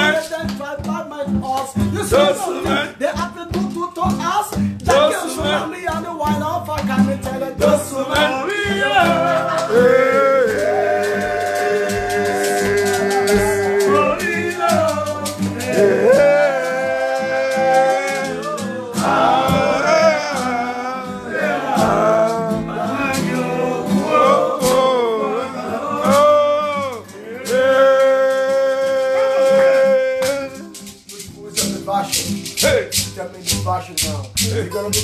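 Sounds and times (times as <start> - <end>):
person singing: 0.0 - 31.7
strummed acoustic guitar: 0.0 - 35.0.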